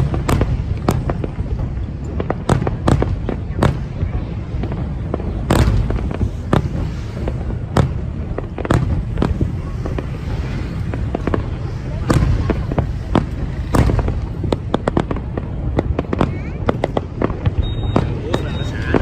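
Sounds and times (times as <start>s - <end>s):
constant low rumble: 0.0s - 19.0s
fireworks bangs: 0.0s - 19.0s.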